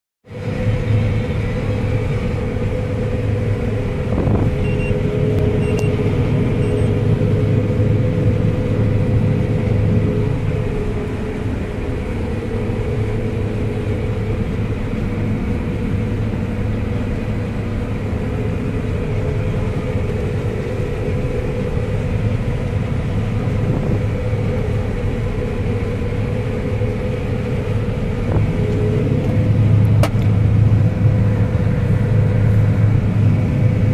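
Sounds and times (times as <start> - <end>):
constant higher hum: 0.2 - 33.9
combine harvester droning: 0.3 - 33.9.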